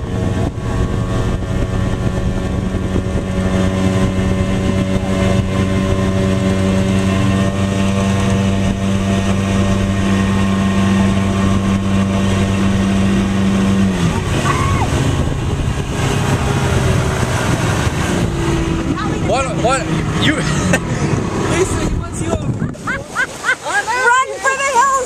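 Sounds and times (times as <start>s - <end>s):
motorboat engine running: 0.0s - 25.0s
water and wind rushing: 0.0s - 25.0s.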